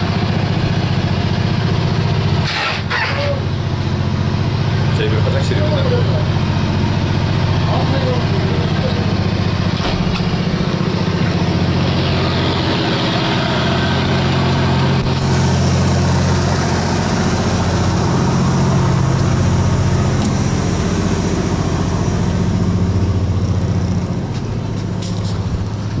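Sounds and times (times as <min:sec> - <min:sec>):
boat engine low drone: 0:00.0 - 0:26.0.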